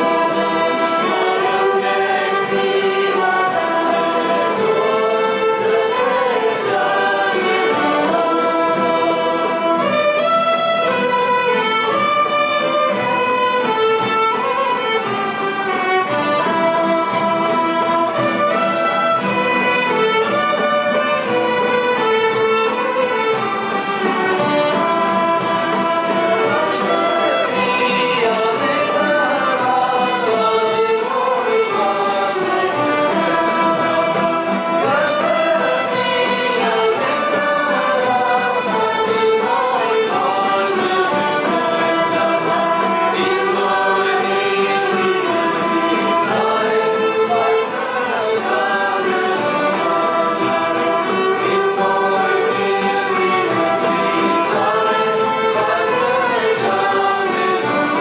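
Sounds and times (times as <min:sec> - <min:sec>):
choir singing: 0:00.0 - 0:58.0
violins and acoustic instruments: 0:00.0 - 0:58.0.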